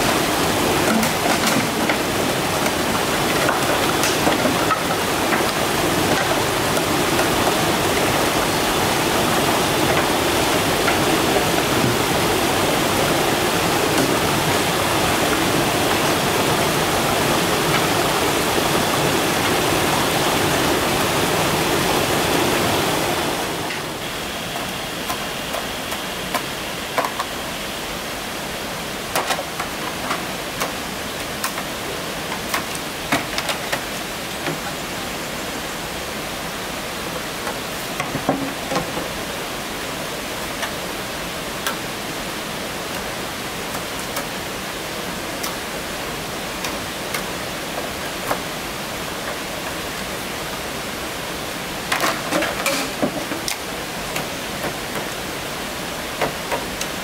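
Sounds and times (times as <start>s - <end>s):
rocky stream rushing: 0.0s - 57.0s.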